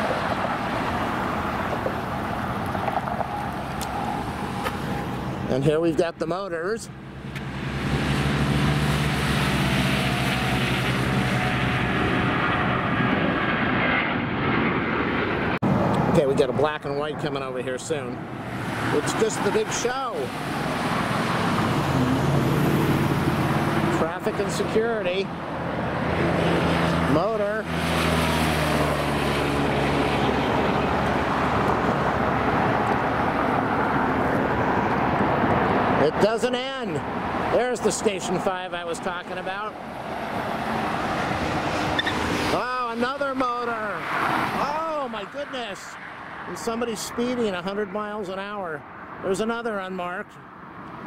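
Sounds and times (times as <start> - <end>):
constant broad roar: 0.0 - 51.0.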